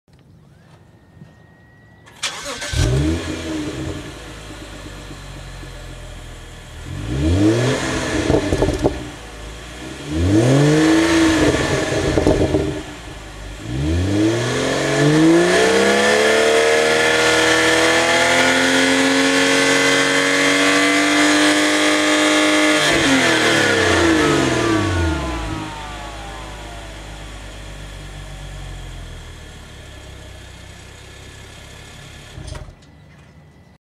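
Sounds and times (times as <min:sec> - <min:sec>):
car engine idling and revving: 0:02.2 - 0:32.8.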